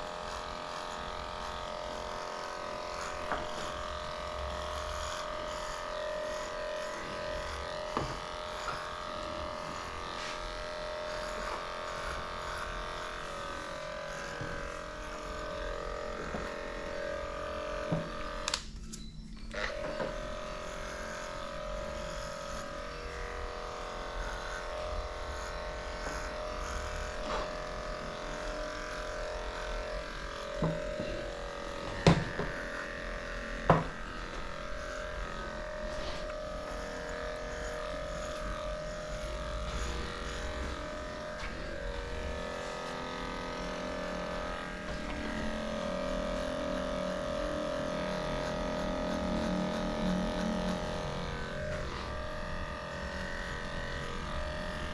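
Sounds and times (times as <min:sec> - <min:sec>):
electric clipper running: 0:00.0 - 0:54.9.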